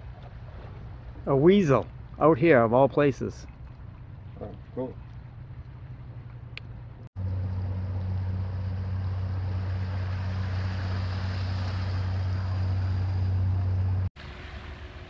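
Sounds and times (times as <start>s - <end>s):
motorboat engine droning: 0.0s - 15.0s
wind and water hiss: 0.0s - 15.0s.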